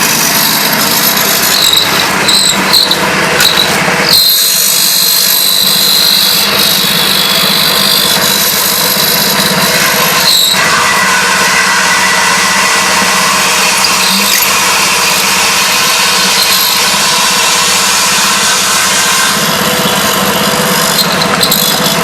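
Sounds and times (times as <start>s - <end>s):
drilling machine motor hum: 0.0s - 22.0s
high-pitched machine whine: 0.0s - 22.0s
short high squeals: 0.0s - 22.0s.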